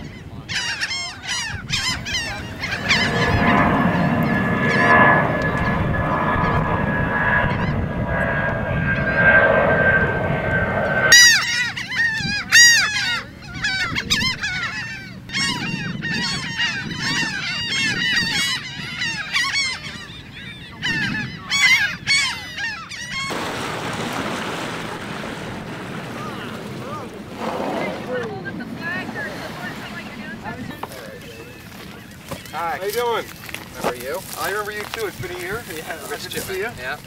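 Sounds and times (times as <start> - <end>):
wind on microphone: 0.0 - 32.4
jet airliner roar: 0.0 - 33.7
gulls laughing calls: 0.0 - 37.0.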